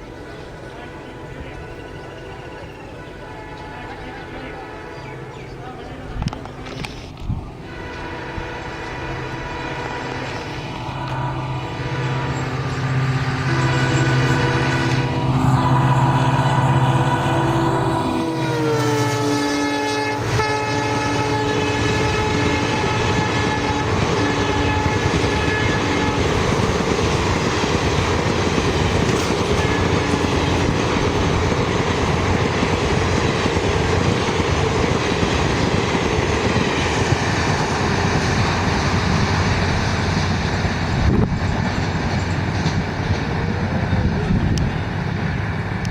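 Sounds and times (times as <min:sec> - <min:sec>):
diesel locomotive horn: 0:00.0 - 0:05.4, 0:07.6 - 0:41.2
passing train rumble and clatter: 0:00.0 - 0:45.9.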